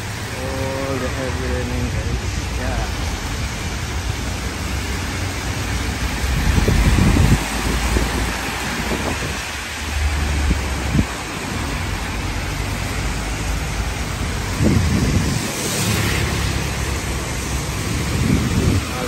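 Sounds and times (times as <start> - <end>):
cars swishing past on wet road: 0.0 - 19.0
heavy rain on a street: 0.0 - 19.0.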